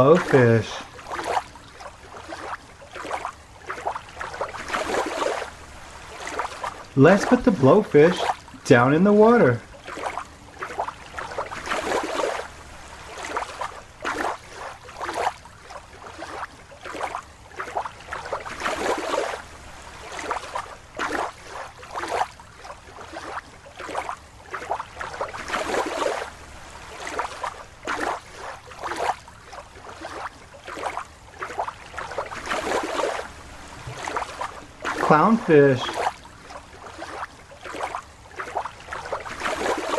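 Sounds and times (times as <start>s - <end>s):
water sloshing: 0.0s - 39.9s.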